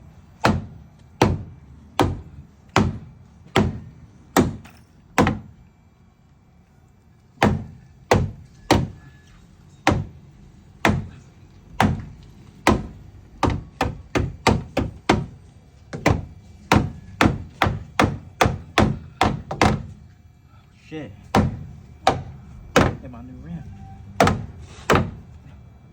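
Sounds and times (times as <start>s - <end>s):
hammer striking: 0.4s - 5.6s, 7.4s - 10.2s, 10.8s - 20.1s, 21.2s - 23.1s, 23.8s - 25.4s.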